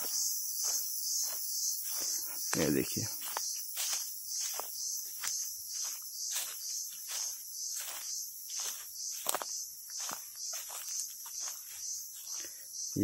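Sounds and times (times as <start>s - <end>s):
footsteps crunching on dry leaves: 0.0s - 12.6s
crickets chirring: 0.0s - 13.0s.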